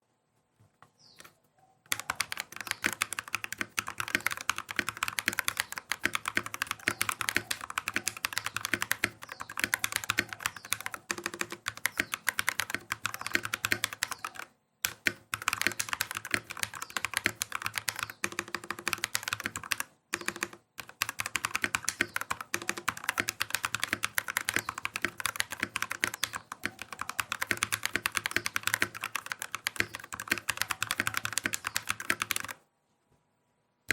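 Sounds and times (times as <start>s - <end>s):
fast mechanical keyboard typing: 1.9s - 32.6s.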